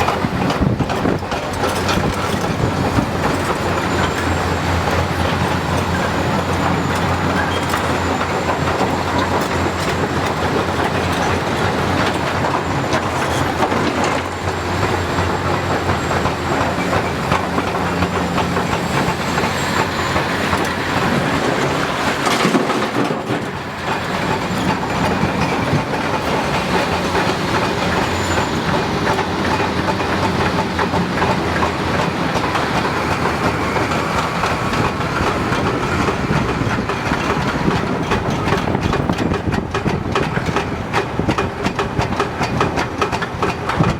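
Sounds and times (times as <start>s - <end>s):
excavator diesel engine running: 0.0s - 43.9s
metallic clatter and grinding in rock: 0.0s - 43.9s.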